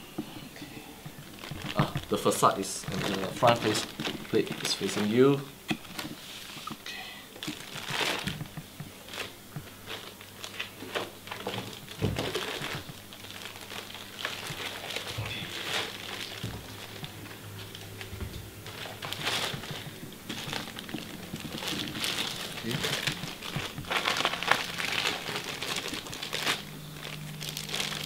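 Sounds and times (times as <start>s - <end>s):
plastic bag crinkling: 1.2s - 6.8s, 7.4s - 28.0s.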